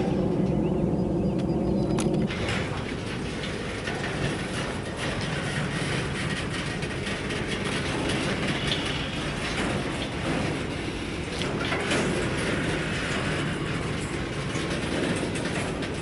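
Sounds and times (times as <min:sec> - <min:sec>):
freight train cars rumbling: 0:00.0 - 0:16.0
wheels clicking on rail: 0:01.8 - 0:16.0.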